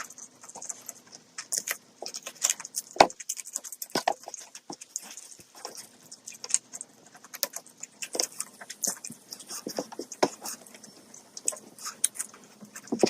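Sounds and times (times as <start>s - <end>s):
wet chewing crunches: 0.0s - 13.0s.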